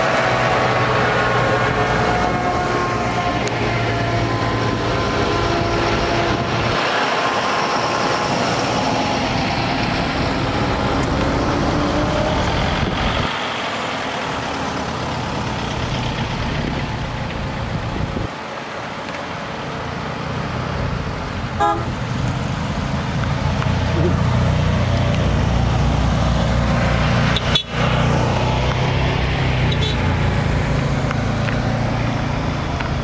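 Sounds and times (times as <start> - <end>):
tractor diesel engine: 0.0 - 33.0
vehicles driving past: 0.0 - 33.0.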